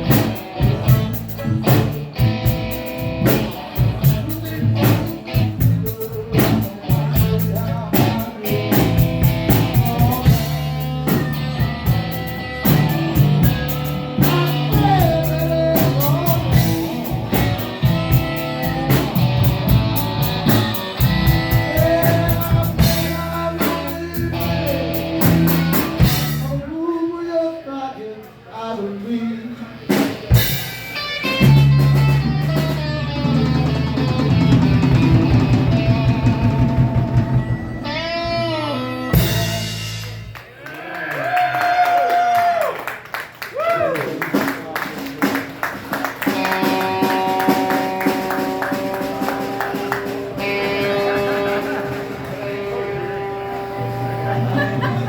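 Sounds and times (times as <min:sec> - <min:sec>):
blues-rock band playing: 0:00.0 - 0:26.8, 0:29.8 - 0:40.6, 0:44.2 - 0:55.0.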